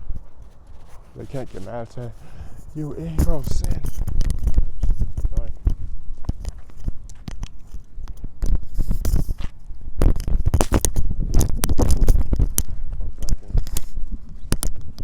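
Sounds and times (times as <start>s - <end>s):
rubbing against microphone: 0.0s - 14.4s.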